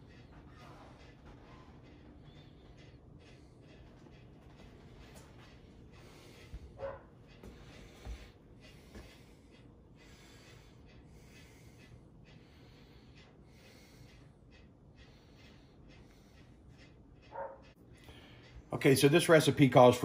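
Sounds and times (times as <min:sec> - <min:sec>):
soft breathing: 0:00.0 - 0:18.7.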